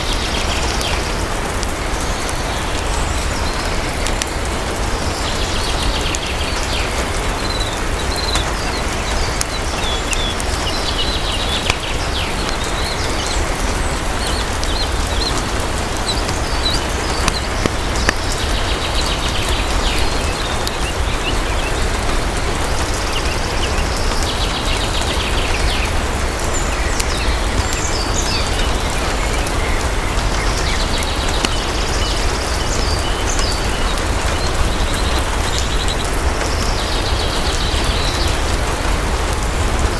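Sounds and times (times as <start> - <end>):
birds chirping and trilling: 0.0 - 39.9
heavy rain: 0.0 - 39.9.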